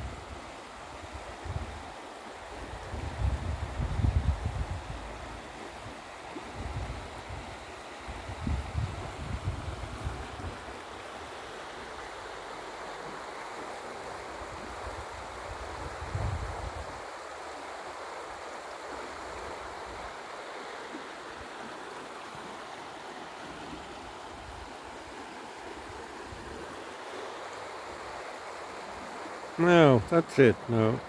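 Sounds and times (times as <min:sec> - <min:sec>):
river water rushing over stones: 0:00.0 - 0:31.0.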